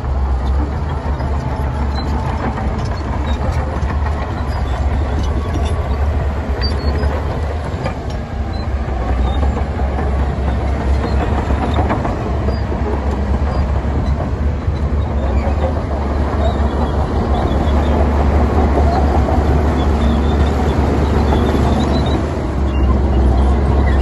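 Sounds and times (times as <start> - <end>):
heavy diesel engine drone: 0.0 - 24.0
machinery clanking and rattling: 0.0 - 24.0.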